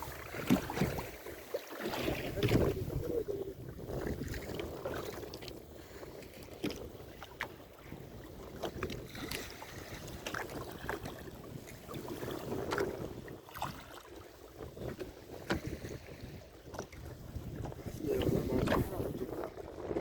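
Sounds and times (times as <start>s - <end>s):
knocks and clatter on boat: 0.0s - 20.0s
sea noise: 0.0s - 20.0s
wind: 0.0s - 20.0s.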